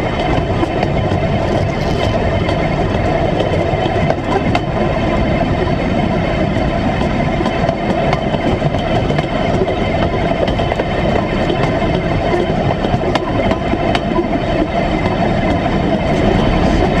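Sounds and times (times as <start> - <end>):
wheels rolling on rails: 0.0 - 17.0.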